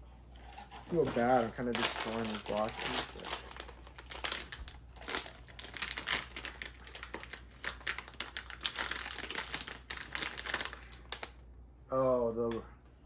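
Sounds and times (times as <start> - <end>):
foil bag crinkling: 0.6 - 11.4.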